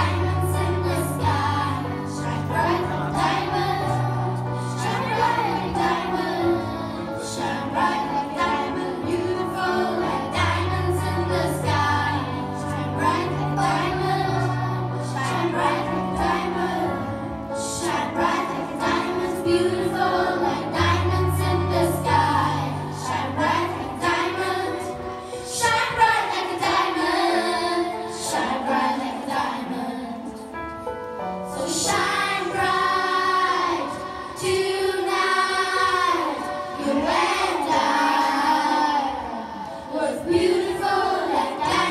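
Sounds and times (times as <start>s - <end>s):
children singing: 0.0s - 30.5s, 31.5s - 41.9s.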